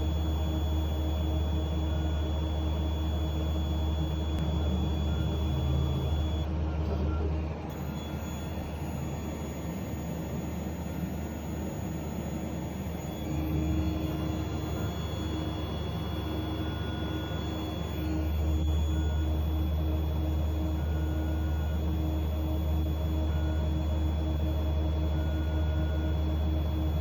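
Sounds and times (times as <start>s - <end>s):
high-pitched whine: 0.0s - 6.5s, 7.7s - 27.0s
laser engraver humming: 0.0s - 27.0s.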